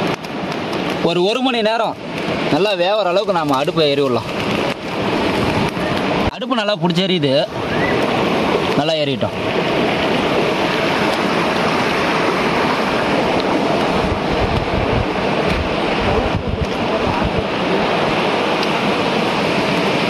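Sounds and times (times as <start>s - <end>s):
wind rumble on microphone: 0.0s - 6.4s, 7.4s - 20.0s
waterfall rushing: 0.0s - 20.0s.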